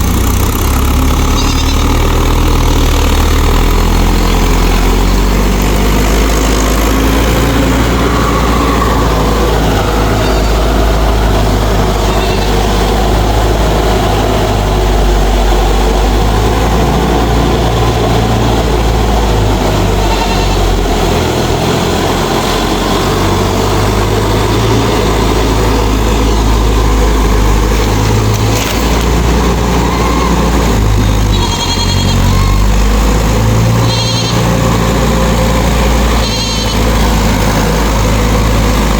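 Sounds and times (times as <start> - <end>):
tractor diesel engine rumbling: 0.0 - 38.9.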